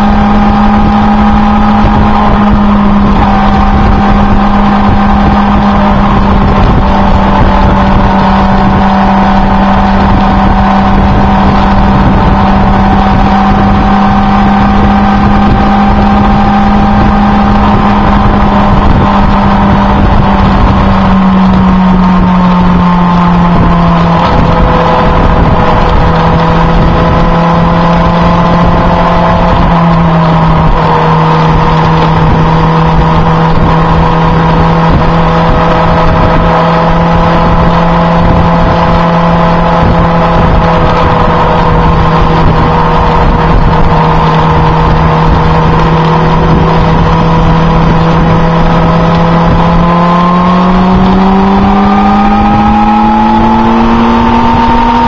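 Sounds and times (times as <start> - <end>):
vehicle engine cruising: 0.0 - 55.0
wind noise rushing: 0.0 - 55.0.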